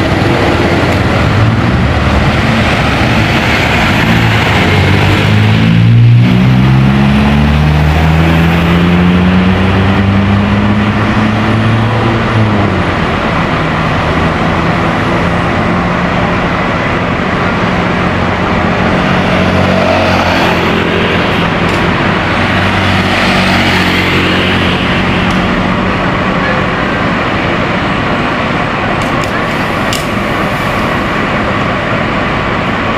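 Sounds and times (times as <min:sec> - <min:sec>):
road noise: 0:00.0 - 0:32.9
vehicle engine accelerating: 0:00.0 - 0:32.9.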